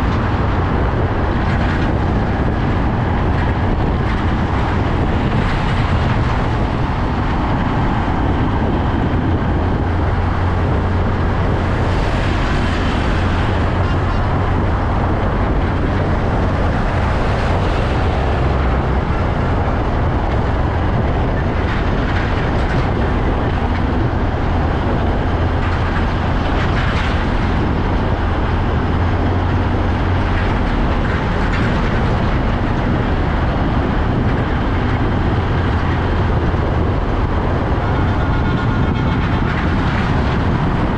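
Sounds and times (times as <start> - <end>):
heavy truck engine rumbling: 0.0 - 40.9.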